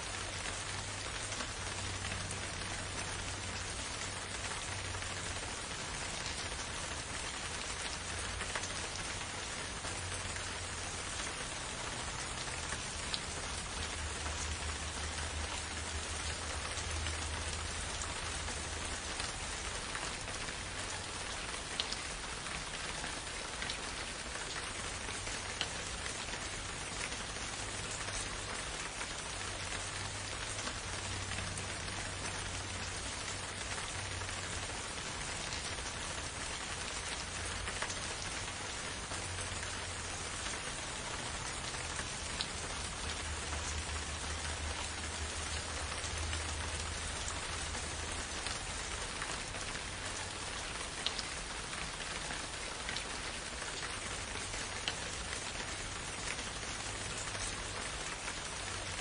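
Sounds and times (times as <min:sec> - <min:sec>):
rain falling in a forest: 0:00.0 - 0:59.0.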